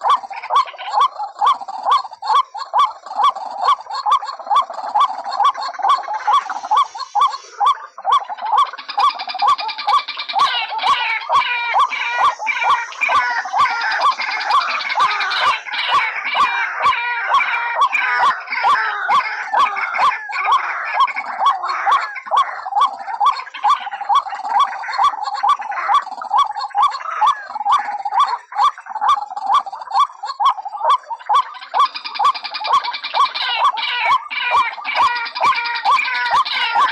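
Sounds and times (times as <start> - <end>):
waterhens calling: 0.0 - 36.9.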